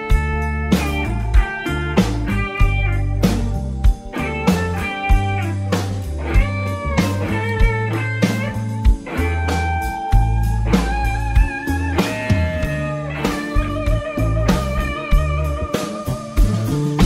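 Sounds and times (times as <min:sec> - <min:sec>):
blues-rock music: 0:00.0 - 0:17.0.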